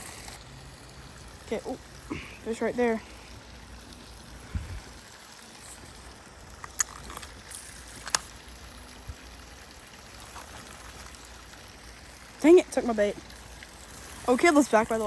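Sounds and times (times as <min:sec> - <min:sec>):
flowing creek water: 0:00.0 - 0:15.0.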